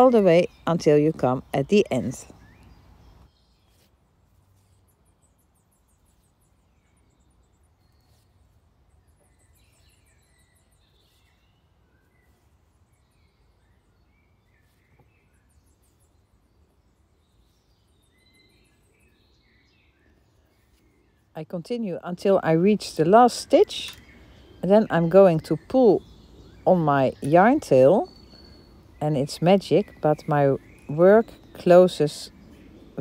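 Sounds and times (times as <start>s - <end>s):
faint bird chirps: 1.7s - 21.4s, 23.1s - 33.0s.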